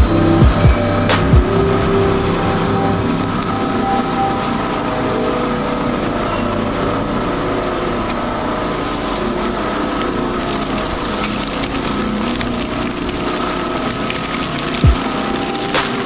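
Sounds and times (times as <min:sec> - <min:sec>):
large machine running: 0:00.0 - 0:16.0.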